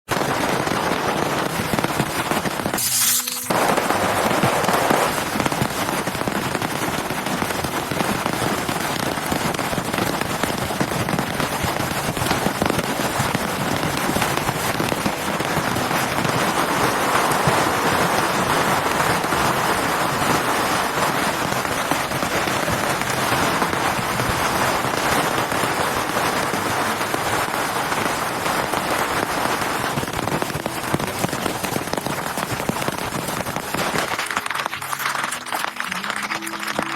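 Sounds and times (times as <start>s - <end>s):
heavy rain pattering: 0.1s - 36.9s.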